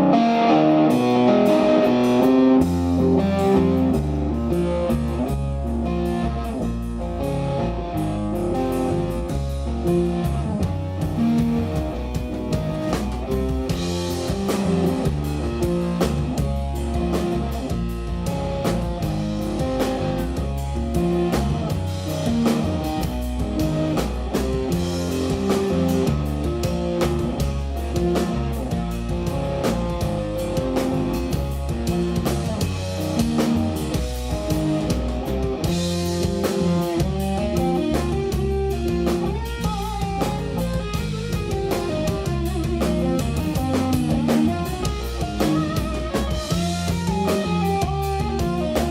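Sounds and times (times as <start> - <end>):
drum kit: 0.0 - 48.9
electric guitar: 0.0 - 48.9.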